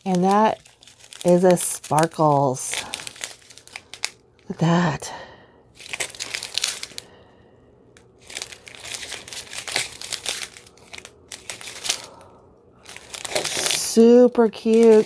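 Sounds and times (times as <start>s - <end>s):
plastic bags crinkling: 0.0s - 4.5s, 5.7s - 7.3s, 8.0s - 15.0s.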